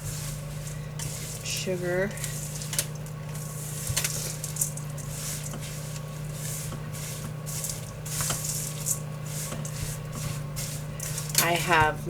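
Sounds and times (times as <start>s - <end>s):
oats being stirred in a bowl: 0.0s - 12.0s.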